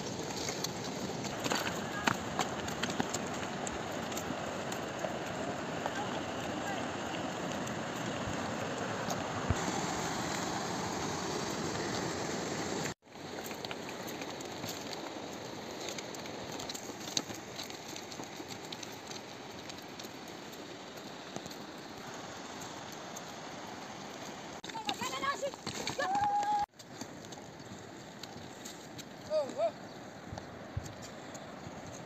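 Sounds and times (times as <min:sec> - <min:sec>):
mountain river rushing: 0:00.0 - 0:26.7
hooves on a stony path: 0:00.0 - 0:32.0.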